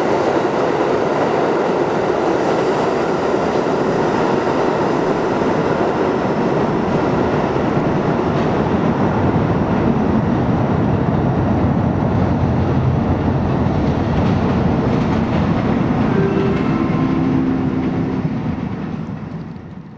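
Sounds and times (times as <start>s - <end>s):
subway train rumbling and clattering: 0.0s - 19.9s.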